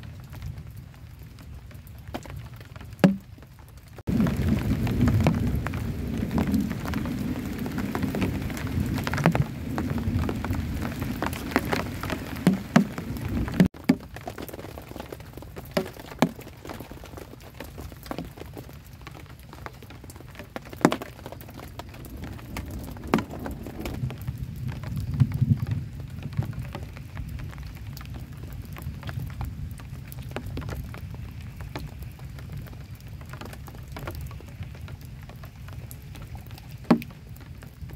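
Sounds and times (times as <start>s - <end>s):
heavy rain falling: 0.0s - 37.9s
large raindrops striking: 0.0s - 37.9s.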